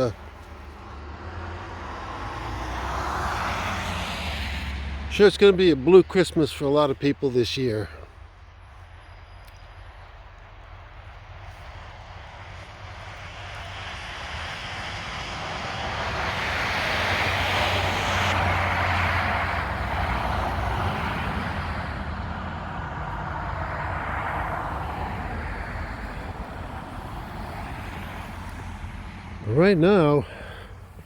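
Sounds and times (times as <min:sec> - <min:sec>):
vehicle passing by: 0:00.0 - 0:07.9, 0:12.0 - 0:31.0.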